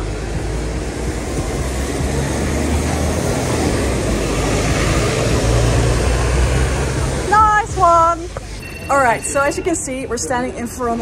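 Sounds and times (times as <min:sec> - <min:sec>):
bus engine running: 0:00.0 - 0:11.0
city street traffic: 0:00.0 - 0:11.0.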